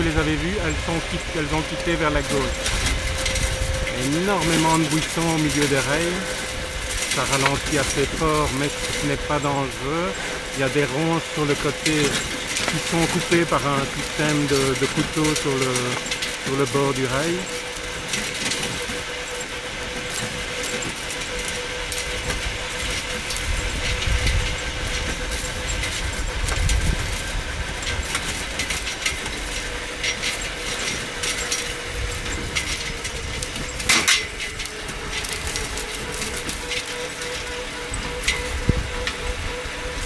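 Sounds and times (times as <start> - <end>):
constant whine: 0.0 - 40.0
small clicks and rattles: 0.0 - 40.0
wheels rushing on rails: 0.0 - 40.0.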